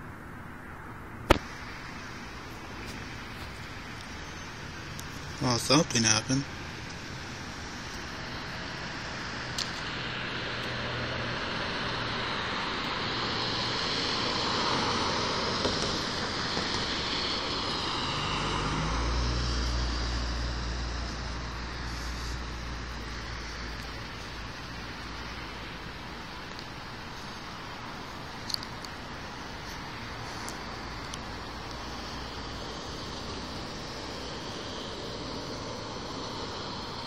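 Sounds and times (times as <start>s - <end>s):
deep engine rumble: 0.0s - 37.0s
vehicles passing: 0.0s - 37.0s.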